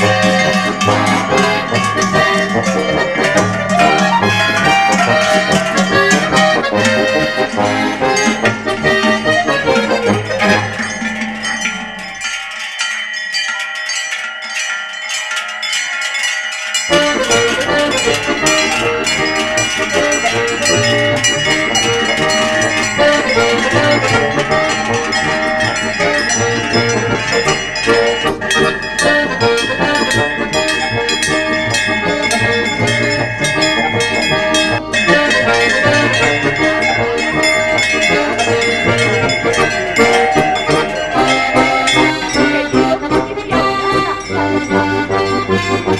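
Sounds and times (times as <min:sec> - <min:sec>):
cowbells clanging: 0:00.0 - 0:45.9.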